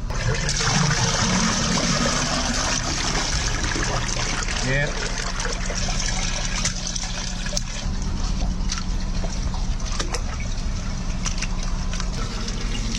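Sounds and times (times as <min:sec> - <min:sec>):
steady low hum: 0:00.0 - 0:12.9
water gurgling down drain: 0:00.0 - 0:12.9.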